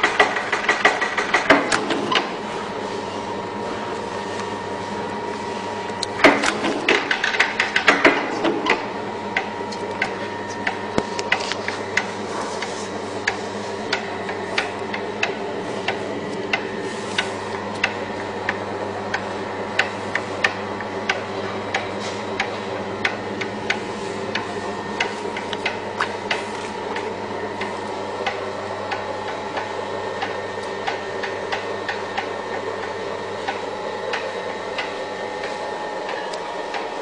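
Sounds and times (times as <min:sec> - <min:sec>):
paper punching machine motor hum: 0:00.0 - 0:37.0.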